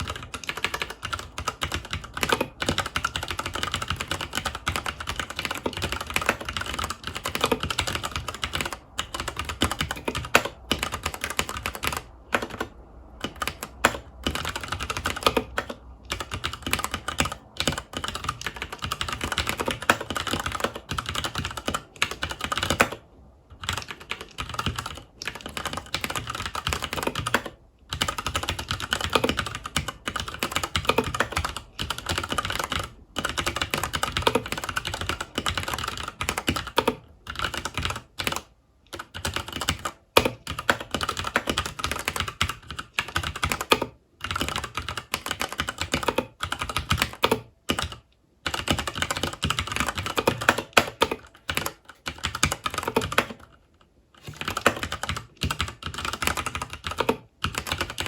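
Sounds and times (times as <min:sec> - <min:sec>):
fast typing on mechanical keyboard: 0:00.0 - 0:53.6, 0:54.2 - 0:58.0.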